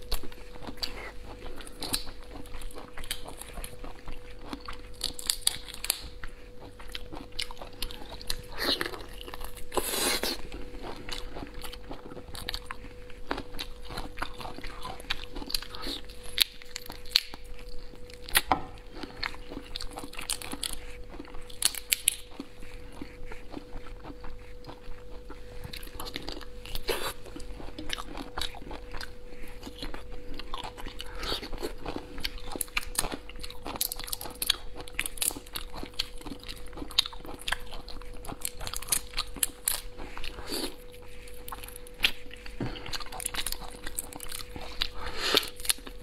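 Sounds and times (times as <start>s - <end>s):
faint steady hum: 0.0s - 46.0s
wet chewing and sucking: 0.0s - 46.0s.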